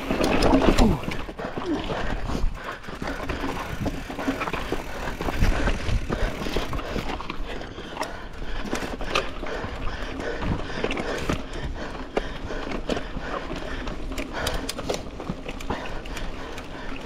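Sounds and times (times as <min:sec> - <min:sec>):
bike chain and frame rattling: 0:00.0 - 0:17.0
tyres on dirt: 0:00.0 - 0:17.0.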